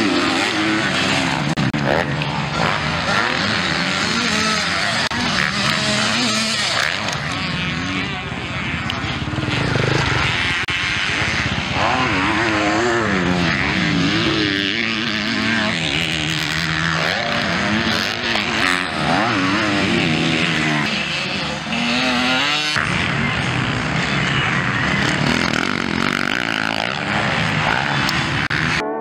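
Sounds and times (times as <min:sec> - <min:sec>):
dirt-bike engines revving: 0:00.0 - 0:29.0.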